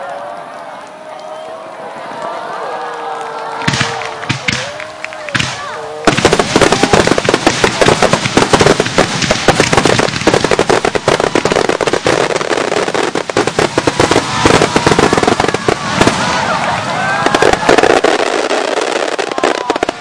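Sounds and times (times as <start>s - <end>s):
rapid fireworks bangs: 3.6s - 20.0s.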